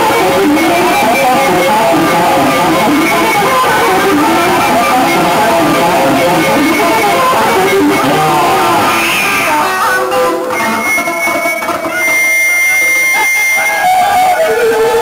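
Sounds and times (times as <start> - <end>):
electric bass guitar: 0.0 - 15.0
high steady tone: 0.0 - 15.0.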